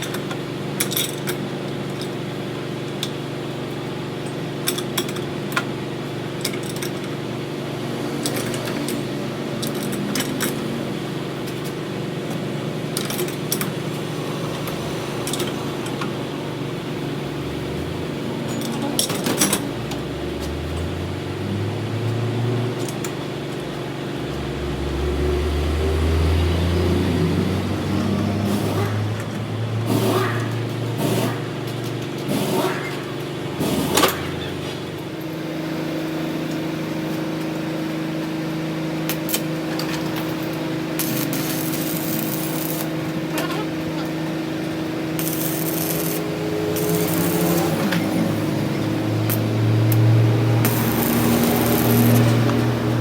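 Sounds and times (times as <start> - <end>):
workshop machine humming: 0.0 - 53.0.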